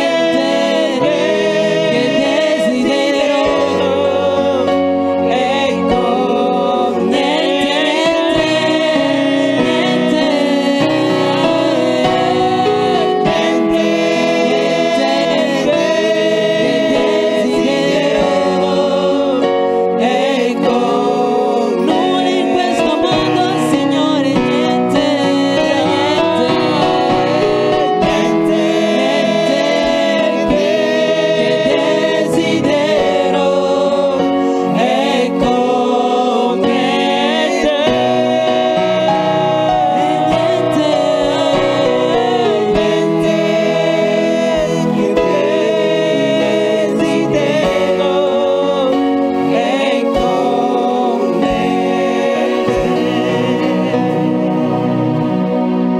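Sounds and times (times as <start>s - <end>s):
gospel voices singing held notes: 0.0s - 55.9s
instrumental backing: 0.0s - 55.9s.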